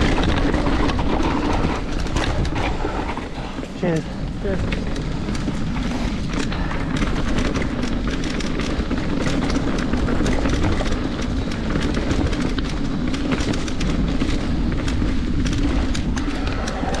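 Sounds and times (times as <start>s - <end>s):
bike clicking and rattling: 0.0s - 17.0s
tyres rumbling on dirt trail: 0.0s - 17.0s
wind: 0.0s - 17.0s.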